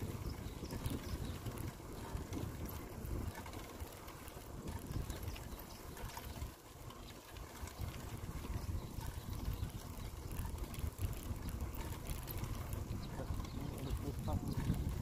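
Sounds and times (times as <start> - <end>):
bicycle tyres rolling on asphalt: 0.0 - 15.0
wind buffeting microphone: 0.0 - 15.0.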